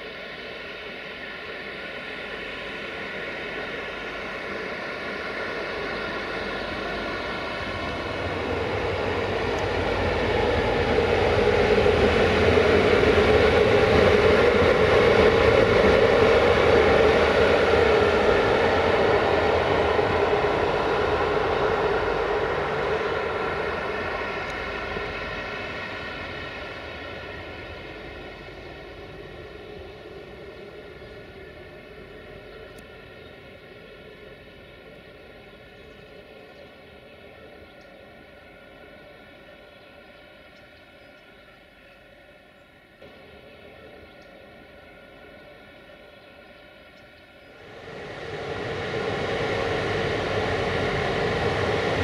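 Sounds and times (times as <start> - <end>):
electric locomotive droning hum: 0.0 - 52.0.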